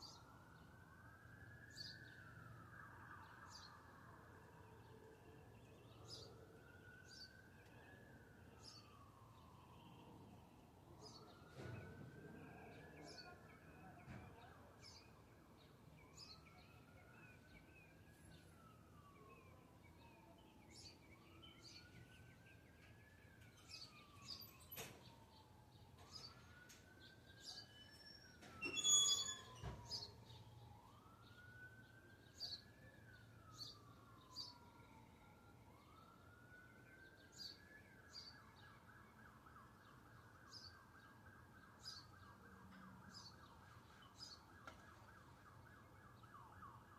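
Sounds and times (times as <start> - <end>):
distant siren wailing: 0.0 - 46.9.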